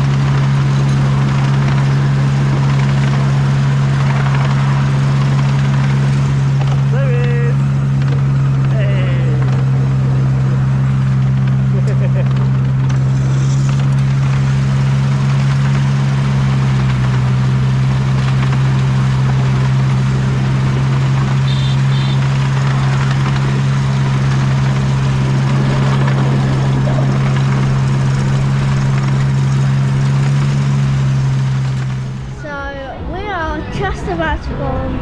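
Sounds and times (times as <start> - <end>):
ride noise: 0.0 - 35.0
train engine humming: 0.0 - 35.0.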